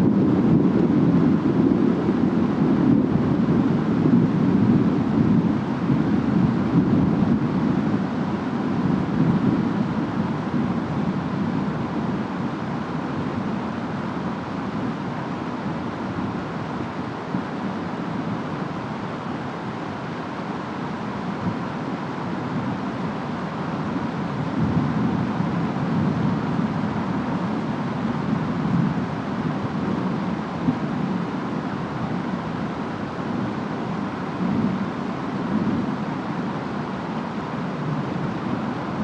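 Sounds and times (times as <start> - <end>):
rain: 0.0 - 39.0
wind: 0.0 - 39.0.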